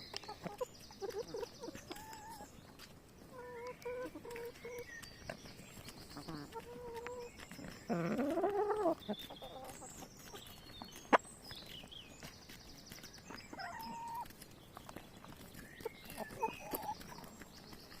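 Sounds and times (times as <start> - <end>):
hens calling and clucking: 0.0 - 18.0
small birds chirping: 0.0 - 18.0.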